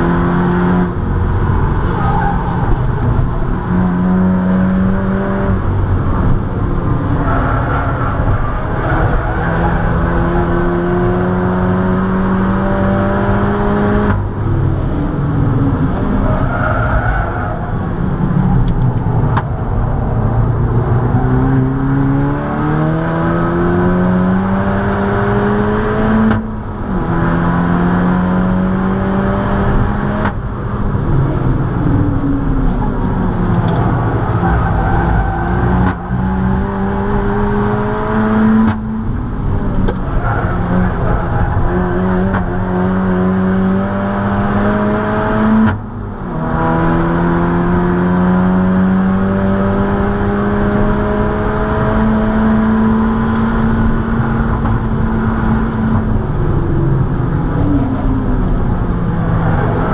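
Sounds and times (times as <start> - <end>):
car engine at full throttle: 0.0 - 59.9
tyre and road noise: 0.0 - 59.9.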